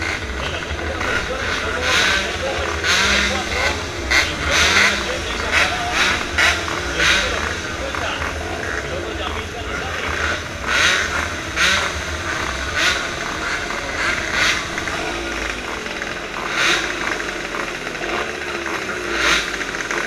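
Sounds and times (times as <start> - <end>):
motorcycle engines idling: 0.0 - 20.0
motorcycle throttle blips: 0.0 - 20.0.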